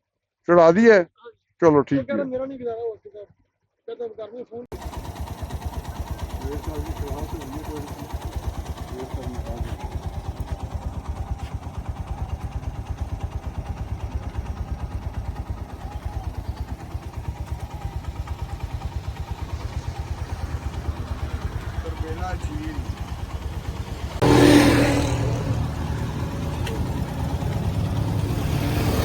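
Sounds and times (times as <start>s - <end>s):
motorcycle engine running: 4.7s - 29.0s.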